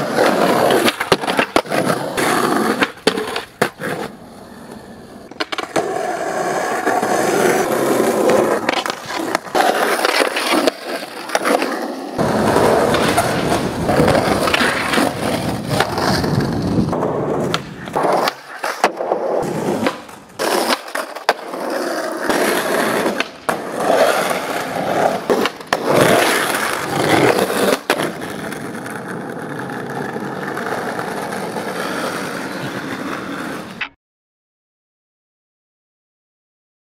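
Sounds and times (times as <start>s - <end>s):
skateboard wooden clacks: 0.0s - 4.1s, 4.7s - 34.0s
skateboard wheels rolling: 0.0s - 33.9s.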